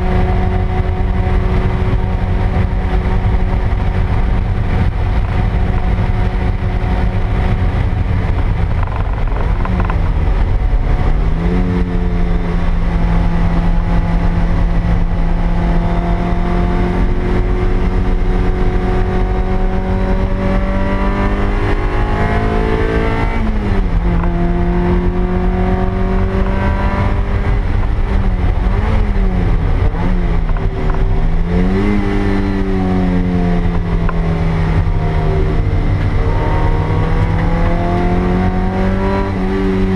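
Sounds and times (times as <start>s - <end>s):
car engine revving and shifting: 0.0s - 39.9s
road and wind noise: 0.0s - 39.9s.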